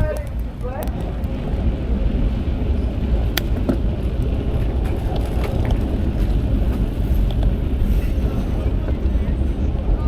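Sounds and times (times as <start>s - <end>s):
tyre and road noise: 0.0s - 10.0s
wind rumbling on microphone: 0.0s - 10.0s.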